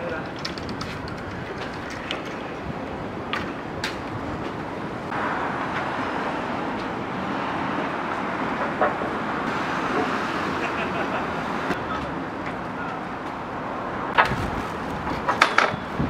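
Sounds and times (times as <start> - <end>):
road traffic going by: 0.0 - 16.0.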